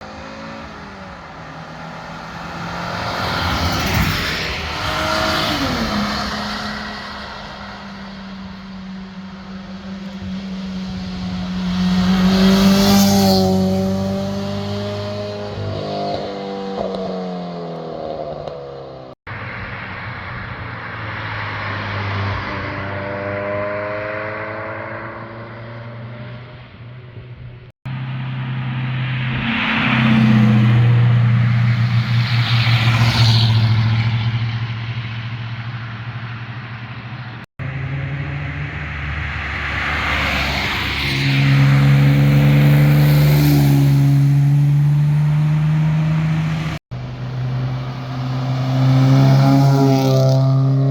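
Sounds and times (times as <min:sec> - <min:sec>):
cars accelerating past: 0:00.0 - 0:26.8, 0:27.9 - 0:50.9.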